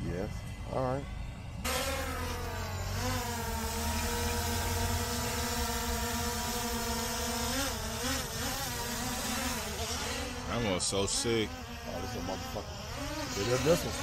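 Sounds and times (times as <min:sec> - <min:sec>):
drone propellers buzzing: 0:01.0 - 0:14.0.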